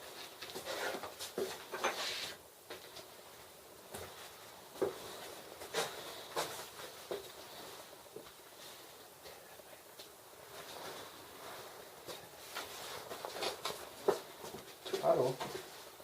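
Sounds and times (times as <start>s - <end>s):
footsteps: 0.0s - 9.4s, 10.0s - 16.0s
low hiss: 0.0s - 16.0s.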